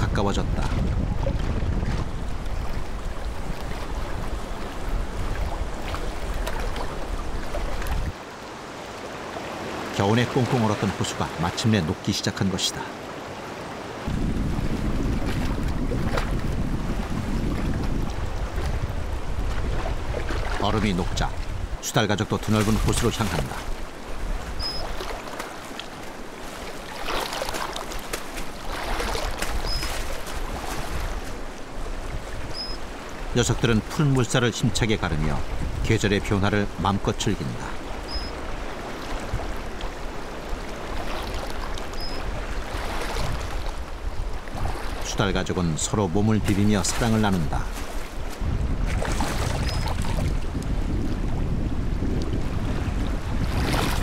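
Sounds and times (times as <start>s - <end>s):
low wind rumble: 0.0s - 8.2s, 14.0s - 33.9s, 34.6s - 45.4s, 46.0s - 54.0s
water lapping at ice: 0.6s - 8.2s, 14.7s - 51.2s, 52.1s - 54.0s.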